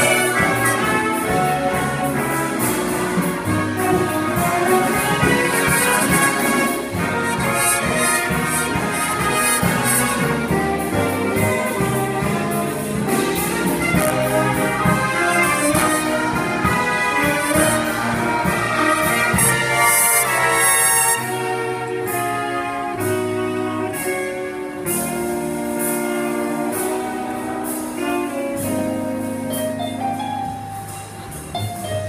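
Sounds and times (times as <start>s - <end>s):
jazz big band playing: 0.0s - 32.0s.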